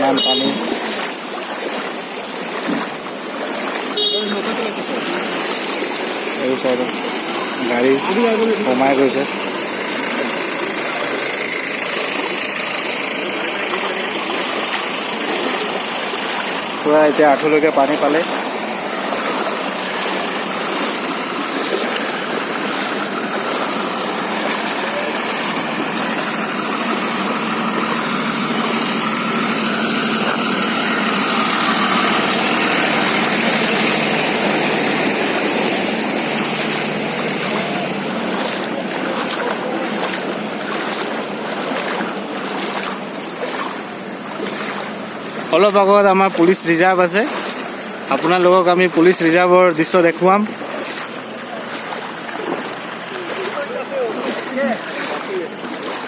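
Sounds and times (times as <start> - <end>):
floodwater rushing and splashing: 0.0 - 56.0.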